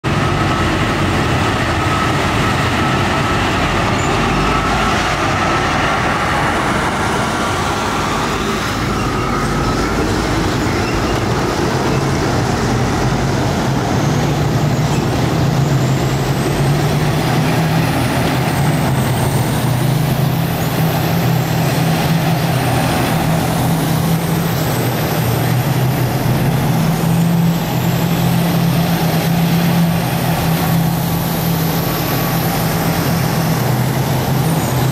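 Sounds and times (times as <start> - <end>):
heavy vehicle engines droning: 0.0 - 34.9.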